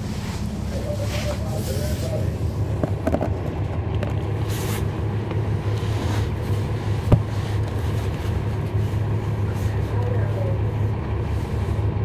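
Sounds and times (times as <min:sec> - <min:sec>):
diesel bus engine drone: 0:00.0 - 0:12.0.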